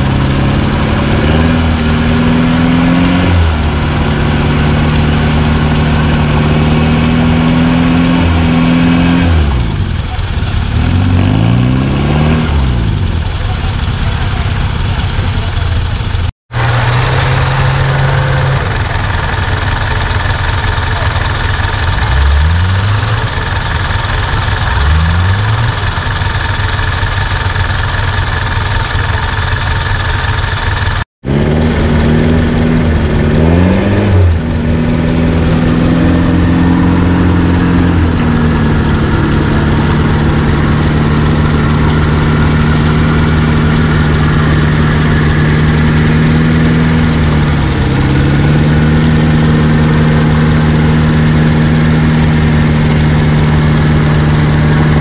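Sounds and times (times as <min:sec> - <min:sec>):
off-road engines revving in mud: 0:00.0 - 0:30.0, 0:30.6 - 0:55.0.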